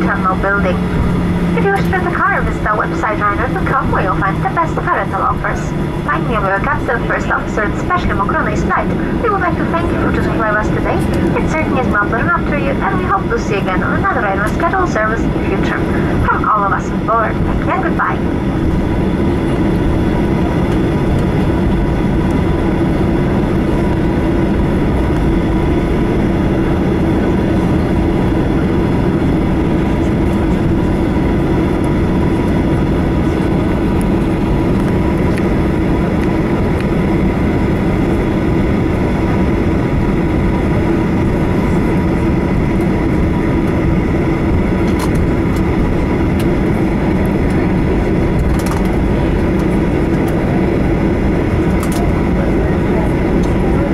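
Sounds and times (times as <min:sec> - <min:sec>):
faint steady engine whine: 0:00.0 - 0:53.9
jet engines idling drone: 0:00.0 - 0:53.9.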